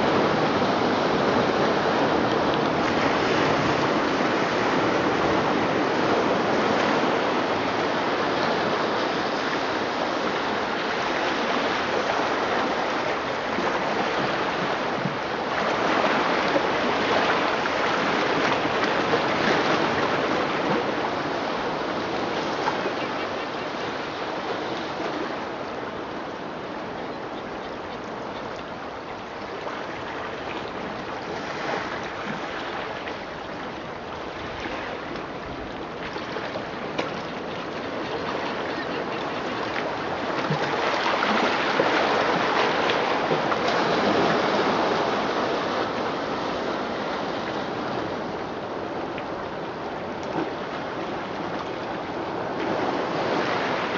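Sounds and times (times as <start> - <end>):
ocean surf through loudspeakers: 0.0 - 53.9.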